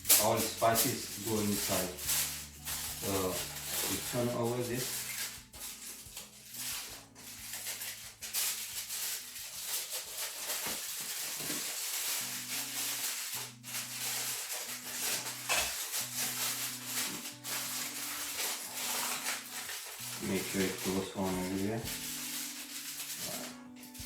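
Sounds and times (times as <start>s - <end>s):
rustling and scraping food handling: 0.0s - 24.0s
soft background music: 0.0s - 24.0s.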